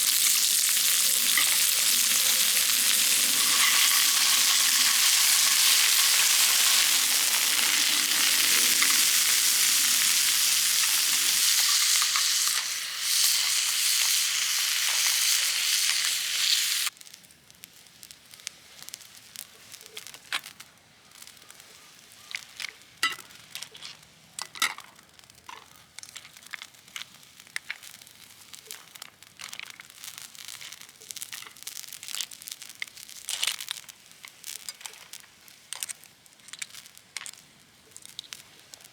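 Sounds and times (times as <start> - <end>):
faint crackles and clicks: 0.0 - 14.2, 16.8 - 38.9
food sizzling in a pan: 0.0 - 23.6, 29.6 - 38.9.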